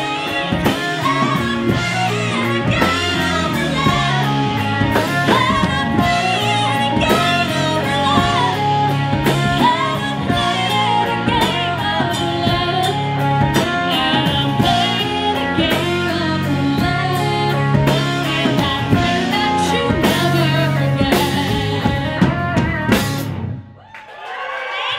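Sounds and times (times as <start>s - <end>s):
woman singing lead vocals: 0.0s - 23.2s
live rock band playing: 0.0s - 23.7s.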